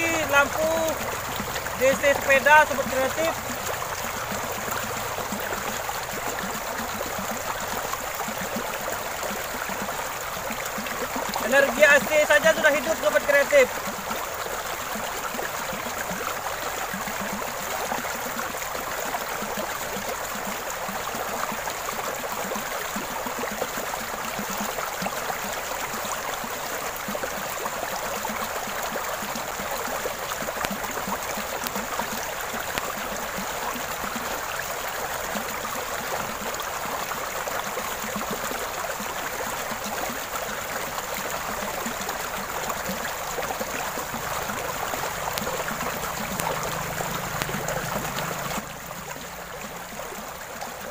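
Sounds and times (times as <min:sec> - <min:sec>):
stream rushing over stones: 0:00.0 - 0:50.9.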